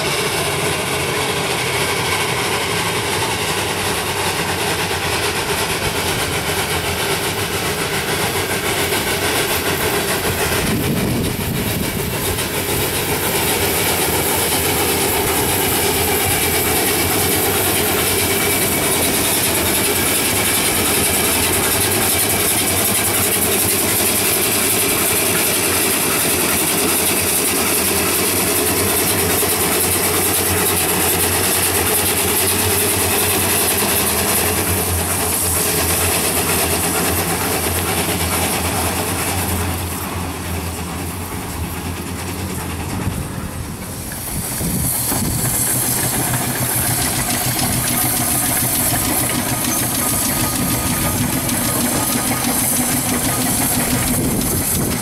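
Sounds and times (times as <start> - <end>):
steam road engine running with hiss: 0.0 - 55.0.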